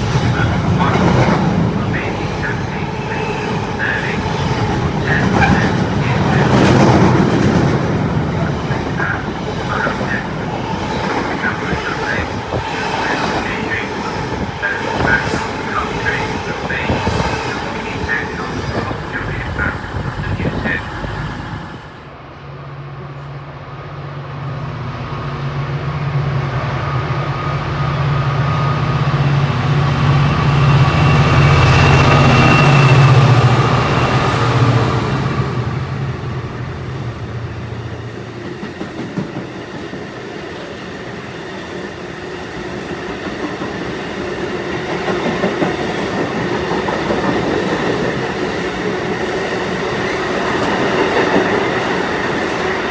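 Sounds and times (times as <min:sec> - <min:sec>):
train running past on rails: 0:00.0 - 0:52.9.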